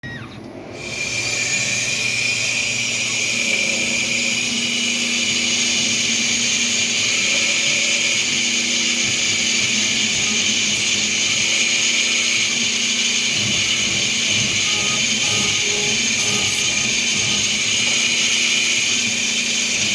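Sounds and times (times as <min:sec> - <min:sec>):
lens edger whining and grinding: 0:00.8 - 0:19.9.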